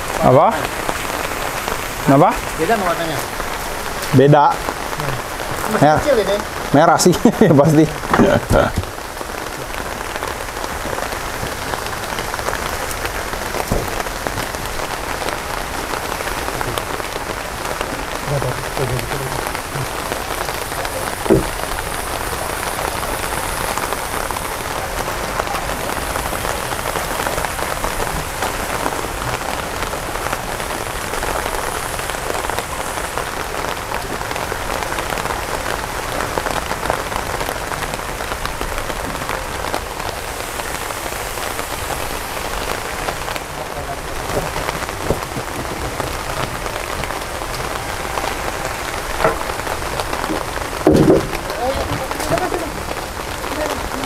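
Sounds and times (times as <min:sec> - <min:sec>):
water falling on a surface: 0:00.0 - 0:54.0.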